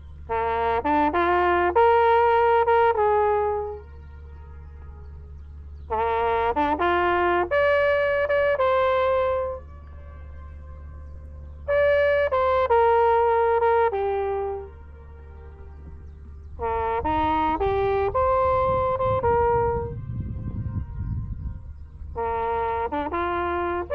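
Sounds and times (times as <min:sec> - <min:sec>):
brass instrument playing held notes: 0:00.0 - 0:23.9.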